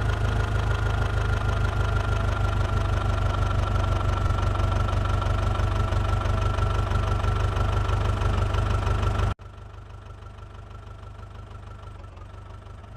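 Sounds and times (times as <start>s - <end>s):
tractor diesel engine humming: 0.0s - 12.9s.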